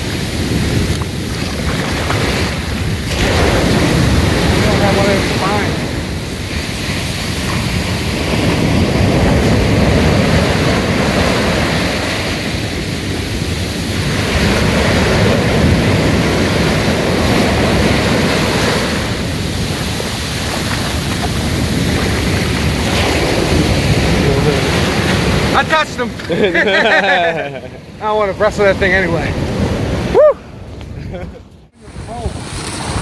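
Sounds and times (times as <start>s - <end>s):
ocean surf breaking: 0.0s - 33.0s.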